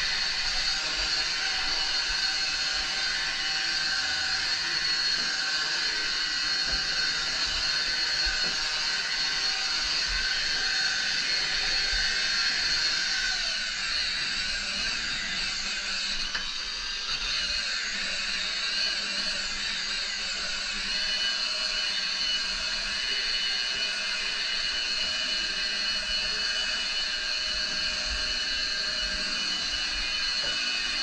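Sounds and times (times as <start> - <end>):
electric polisher whining: 0.0 - 31.0.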